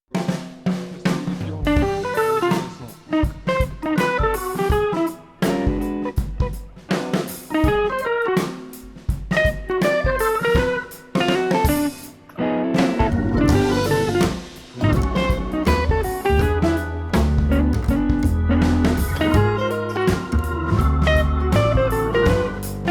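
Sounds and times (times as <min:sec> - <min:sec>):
drum kit steady beat: 0:00.0 - 0:12.2, 0:12.8 - 0:22.9
electric guitar melody: 0:01.7 - 0:22.9.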